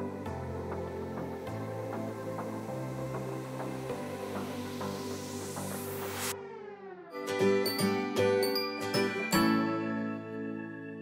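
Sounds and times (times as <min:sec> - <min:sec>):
background music with steady pulse: 0:00.0 - 0:11.0.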